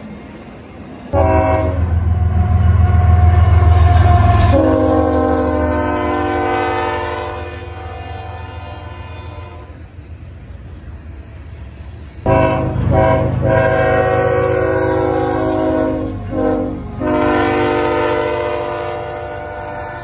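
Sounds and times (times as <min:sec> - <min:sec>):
train rumbling: 0:00.0 - 0:20.0
locomotive air horn: 0:01.1 - 0:09.8, 0:12.2 - 0:20.0.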